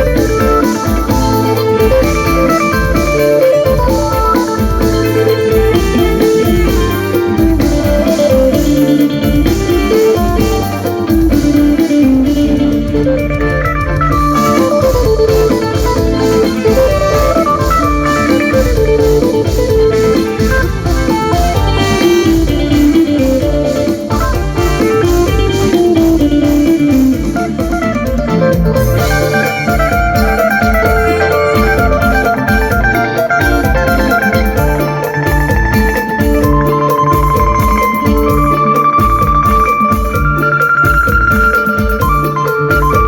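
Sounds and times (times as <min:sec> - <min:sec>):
bass guitar: 0:00.0 - 0:43.0
electric lute picking quick melody: 0:00.0 - 0:43.0
steady drum beat: 0:00.0 - 0:43.0.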